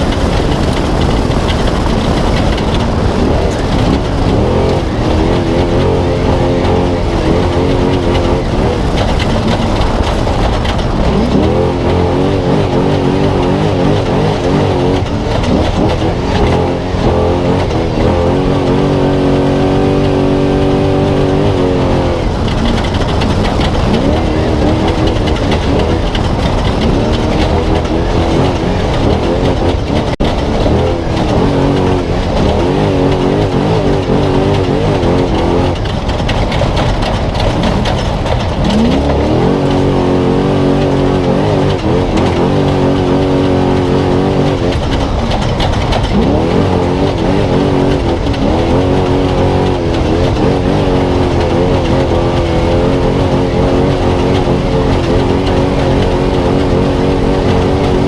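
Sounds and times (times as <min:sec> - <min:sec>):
road and wind noise: 0:00.0 - 0:58.0
truck engine revving hard: 0:00.0 - 0:58.0.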